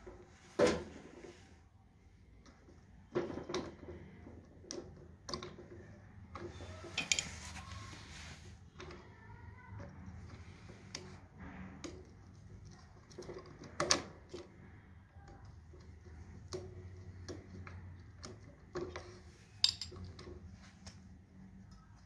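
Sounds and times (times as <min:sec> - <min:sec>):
small parts clicking and knocking: 0:02.3 - 0:07.6, 0:08.7 - 0:22.0.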